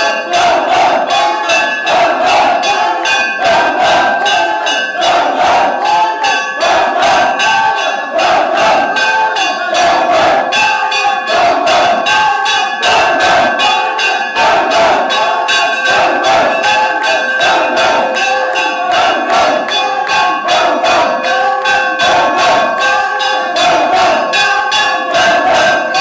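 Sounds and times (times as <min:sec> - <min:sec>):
crowd voices: 0:00.0 - 0:26.0
metal bell ringing: 0:00.0 - 0:26.0.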